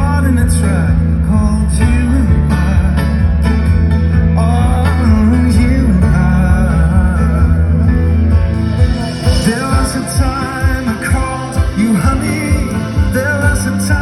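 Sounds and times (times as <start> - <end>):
live band playing amplified music: 0.0 - 14.0.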